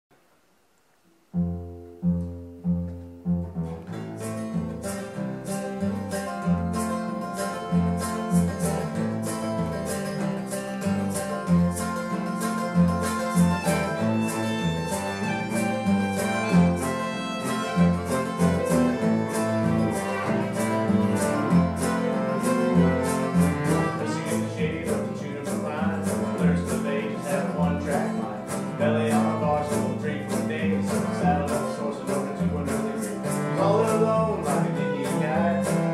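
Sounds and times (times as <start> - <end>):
acoustic guitar strumming: 1.0 - 35.9
acoustic bass guitar: 1.2 - 35.9
fiddle: 2.6 - 35.9.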